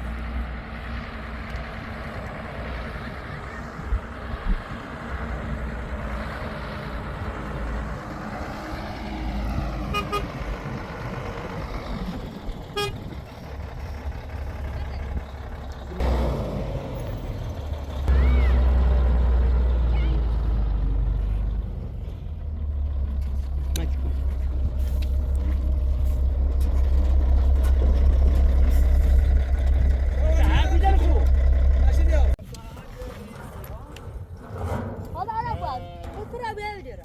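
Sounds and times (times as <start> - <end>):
road noise: 0.0 - 32.8
vehicle engine rumble: 0.0 - 37.0.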